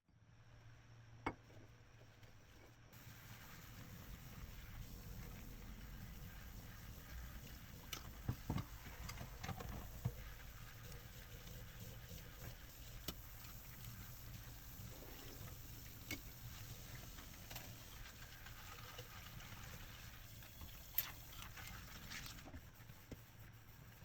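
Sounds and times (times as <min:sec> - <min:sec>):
broth bubbling in a pot: 0:03.0 - 0:24.0.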